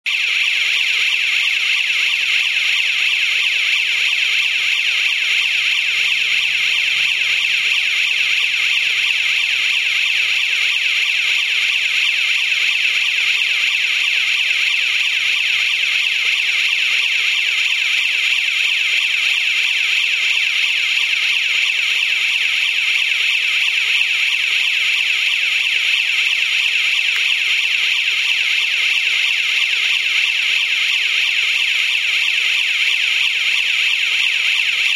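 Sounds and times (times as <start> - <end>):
warbling electronic siren: 0.1 - 34.9.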